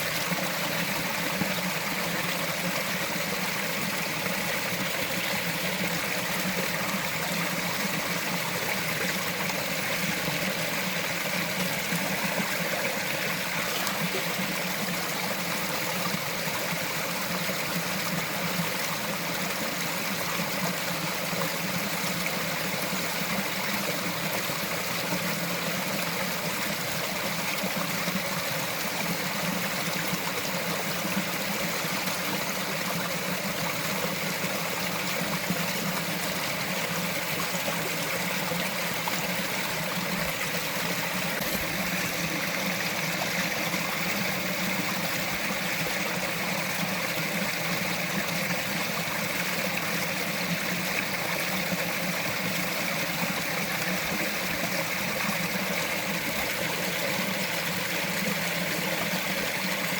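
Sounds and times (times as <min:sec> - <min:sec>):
stream trickling over rocks: 0:00.0 - 0:59.9.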